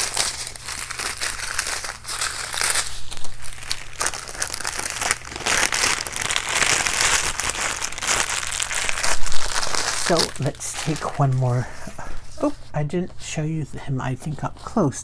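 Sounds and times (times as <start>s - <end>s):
plastic bags crinkling: 0.0s - 14.7s.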